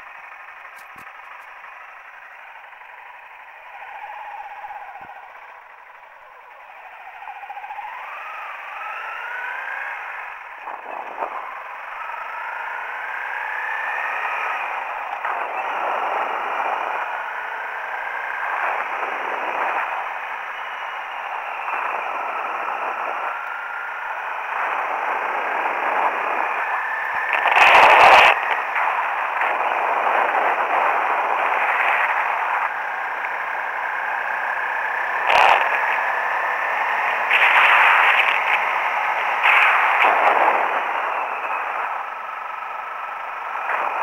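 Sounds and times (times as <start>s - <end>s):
loud burst of noise: 0.0s - 44.0s
motorcycle engine revving: 0.0s - 44.0s.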